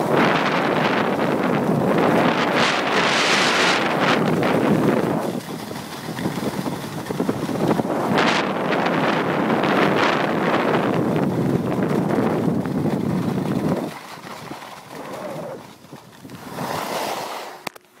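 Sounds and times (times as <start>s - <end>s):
wind rushing over microphone: 0.0s - 17.7s
skis scraping over snow: 0.0s - 17.8s.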